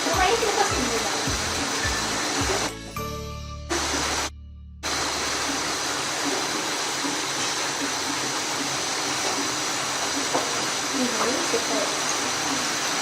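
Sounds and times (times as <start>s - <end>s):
food sizzling in hot oil: 0.0s - 3.0s, 3.7s - 13.0s.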